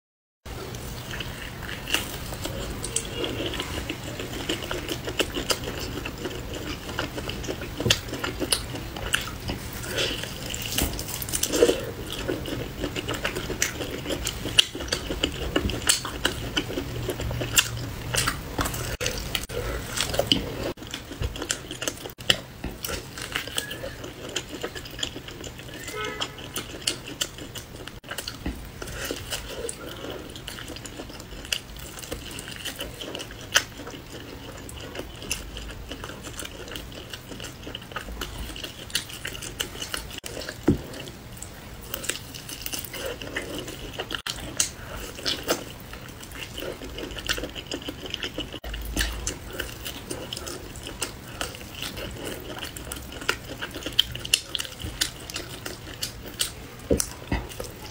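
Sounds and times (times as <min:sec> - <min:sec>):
biting and chewing meat: 0:00.5 - 0:57.9
meat tearing crackles: 0:00.6 - 0:57.9.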